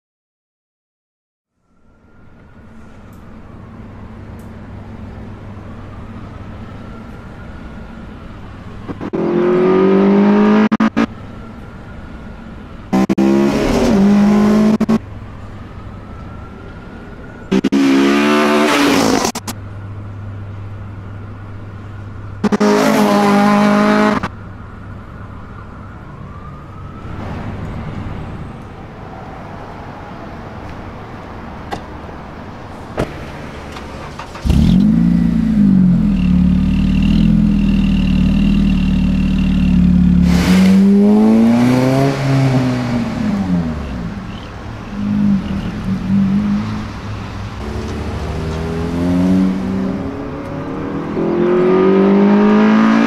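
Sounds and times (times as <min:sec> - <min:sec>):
car engine idling and revving: 0:01.9 - 0:15.5, 0:16.2 - 0:25.4, 0:30.6 - 0:53.0.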